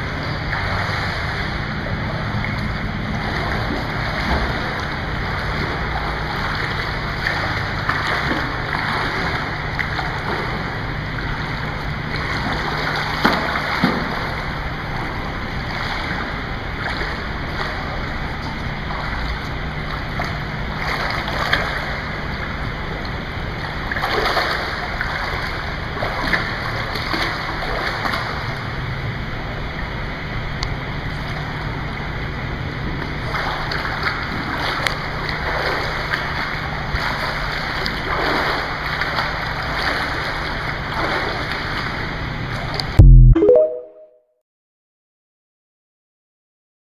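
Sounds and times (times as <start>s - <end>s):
pool water splashing: 0.0s - 43.9s.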